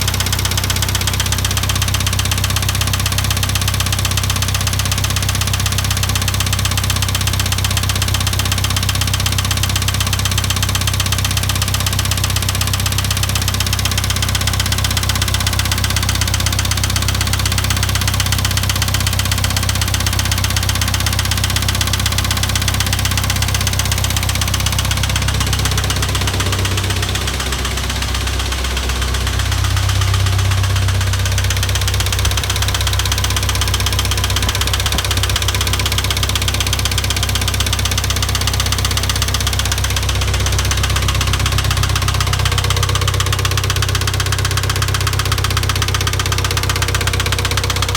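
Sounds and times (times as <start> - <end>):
engine knocking: 0.0 - 47.9
tractor engine running: 0.0 - 47.9.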